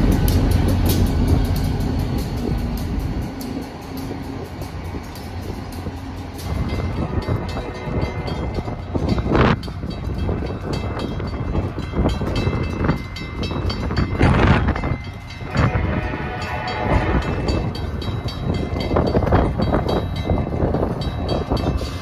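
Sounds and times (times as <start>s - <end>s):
rapid rail clicks: 0.0s - 22.0s
train running on rails: 0.0s - 22.0s.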